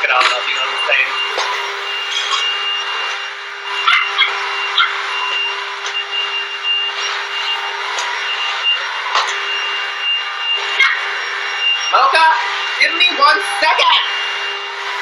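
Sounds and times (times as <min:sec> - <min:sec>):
vacuum cleaner high whine: 0:00.0 - 0:15.0.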